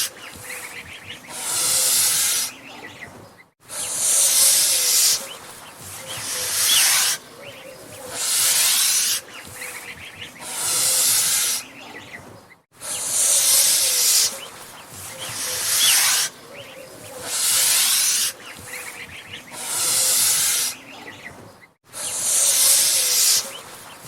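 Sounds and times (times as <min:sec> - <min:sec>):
goose hissing: 0:00.0 - 0:02.9, 0:03.6 - 0:11.9, 0:12.8 - 0:21.0, 0:21.9 - 0:24.0.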